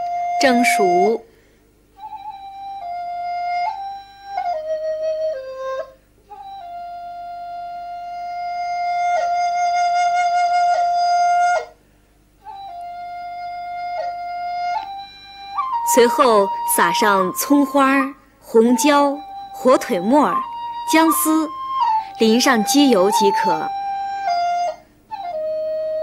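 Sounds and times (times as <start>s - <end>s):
solo flute playing slow melody: 0.0s - 1.2s, 2.0s - 11.8s, 12.4s - 26.0s.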